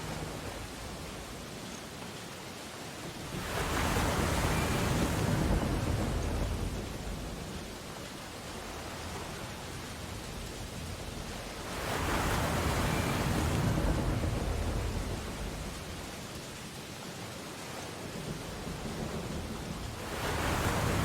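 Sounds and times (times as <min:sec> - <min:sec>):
ocean waves breaking: 0:00.0 - 0:01.5, 0:03.0 - 0:21.0.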